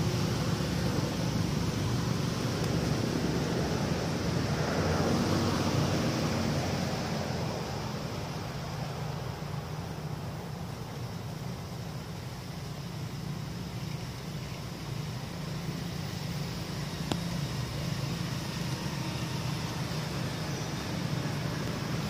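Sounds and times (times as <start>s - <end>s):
low rumble with hiss: 0.0s - 22.0s.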